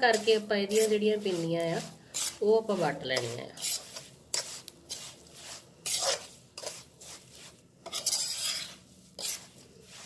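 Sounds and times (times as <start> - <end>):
metal spoon scraping metal pan: 0.0 - 10.0.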